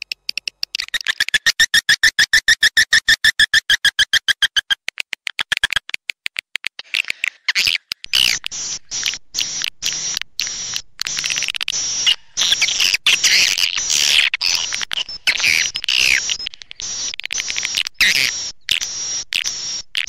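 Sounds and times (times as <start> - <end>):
swiftlets twittering and chirping: 0.0 - 5.9, 6.8 - 20.0.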